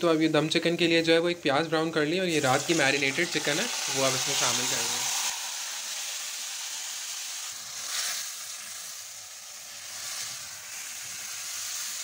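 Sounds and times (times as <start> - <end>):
chicken sizzling in a hot pan: 0.0 - 12.0.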